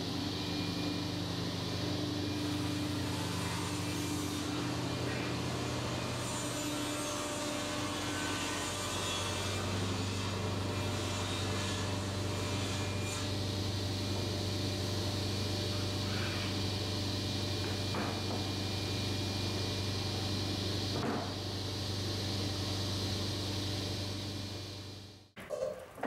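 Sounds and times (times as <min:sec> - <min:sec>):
woodworking machinery humming: 0:00.0 - 0:25.3.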